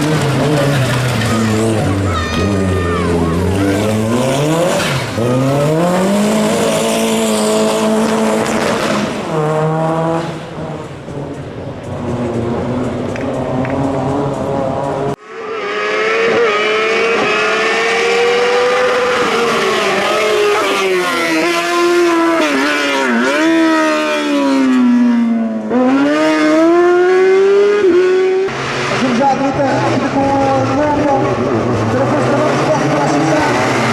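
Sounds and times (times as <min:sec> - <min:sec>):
rally car engine revving: 0:00.0 - 0:33.9.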